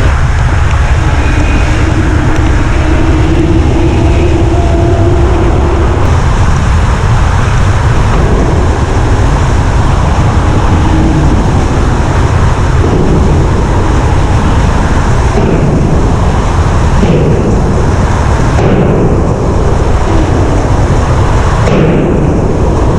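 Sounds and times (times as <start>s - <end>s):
car engine running loud: 0.0s - 22.9s.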